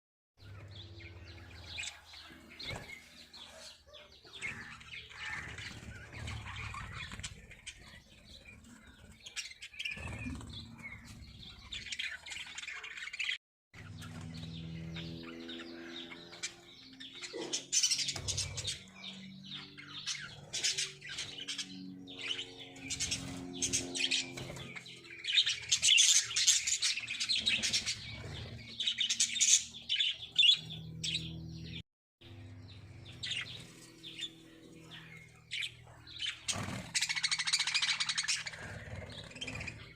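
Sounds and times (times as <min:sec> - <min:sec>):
lovebirds chirping: 0:00.4 - 0:39.9.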